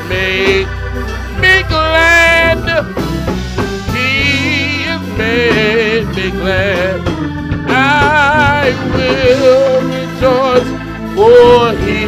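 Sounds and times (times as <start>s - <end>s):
instrumental backing music: 0.0s - 12.0s.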